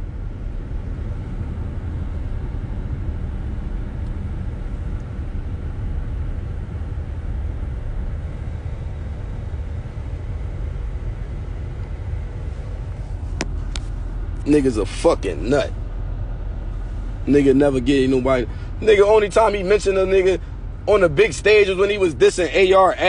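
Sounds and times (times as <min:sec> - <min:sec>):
car interior road rumble: 0:00.0 - 0:23.0.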